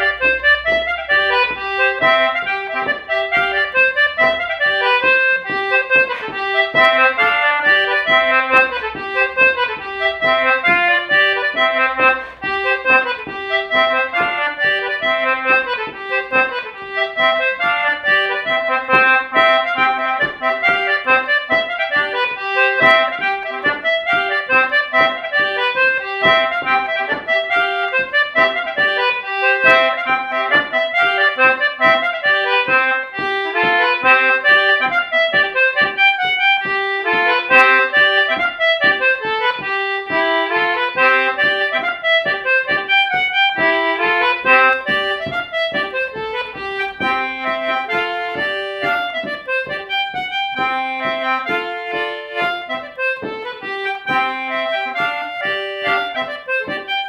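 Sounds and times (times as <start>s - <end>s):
solo concertina folk tune: 0.0s - 57.0s.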